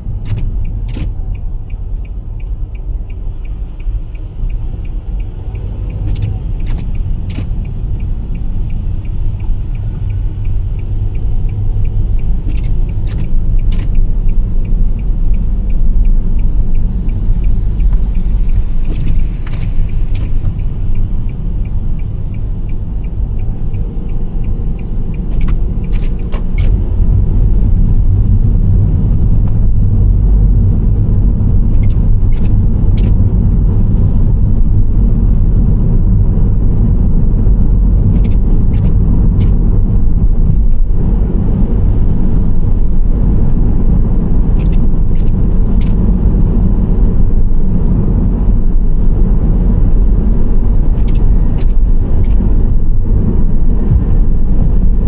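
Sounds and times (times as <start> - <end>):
minivan road and engine noise: 0.0 - 55.0.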